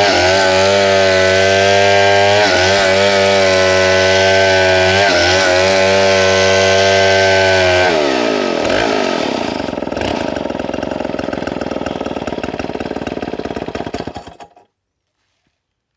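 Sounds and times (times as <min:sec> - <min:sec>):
chainsaw dropping to idle: 0:00.0 - 0:14.7.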